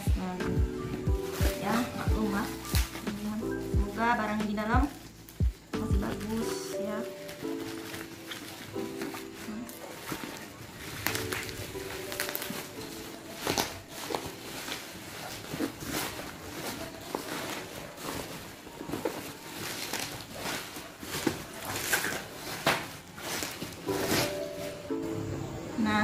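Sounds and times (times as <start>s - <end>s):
plastic bag crinkling and tearing: 1.1s - 25.0s.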